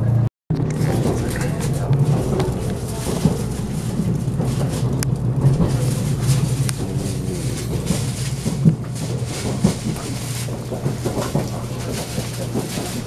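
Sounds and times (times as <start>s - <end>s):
train cabin low drone: 0.0s - 13.0s.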